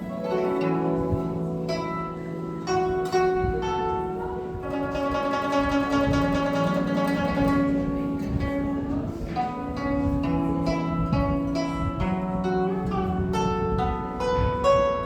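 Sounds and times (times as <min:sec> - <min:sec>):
plucked zither: 0:00.0 - 0:15.0.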